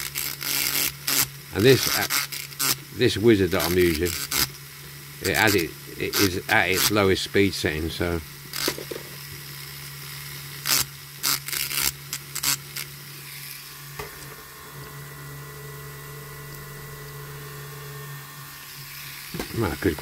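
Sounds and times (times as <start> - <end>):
scratchy grinding bursts: 0.0 - 14.0, 16.5 - 20.0
rotary tool grinding metal: 0.0 - 20.0.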